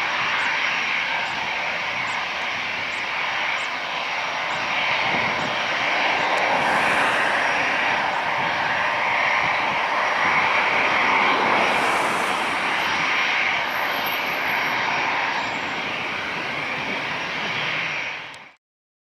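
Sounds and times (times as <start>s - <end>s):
jet engines rushing with high whine: 0.0s - 18.6s.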